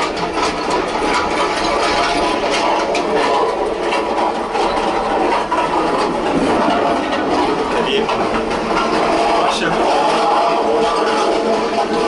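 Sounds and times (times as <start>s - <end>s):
train rumbling and rattling on rails: 0.0s - 12.0s.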